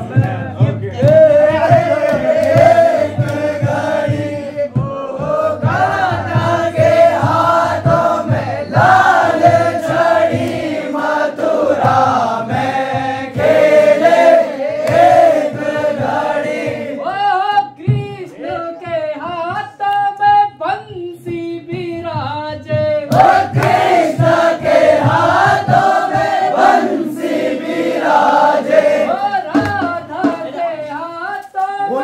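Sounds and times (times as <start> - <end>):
men singing in chorus: 0.0 - 19.9, 22.7 - 32.0
drum beating steady rhythm: 0.0 - 32.0.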